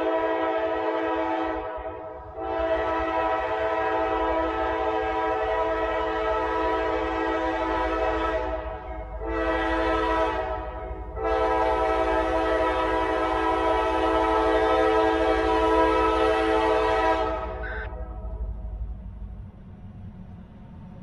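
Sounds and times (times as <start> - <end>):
locomotive air horn blasts: 0.0 - 18.0.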